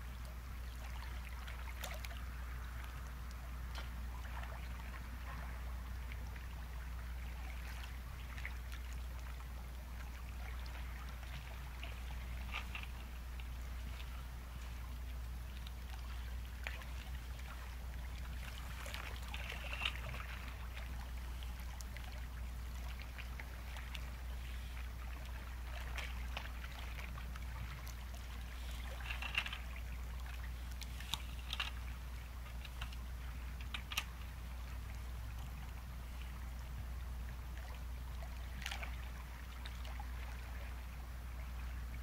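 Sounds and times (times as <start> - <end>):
low steady rumble: 0.0 - 42.0
water crackles and splashes: 0.0 - 42.0.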